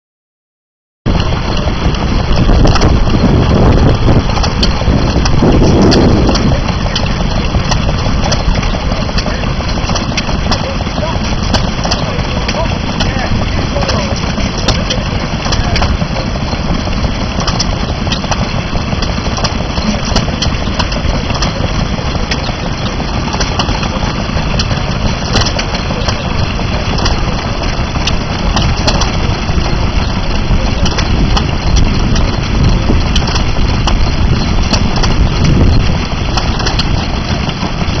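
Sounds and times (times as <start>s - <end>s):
stationary engine knocking: 1.1s - 38.0s
sharp irregular clicks: 1.2s - 38.0s.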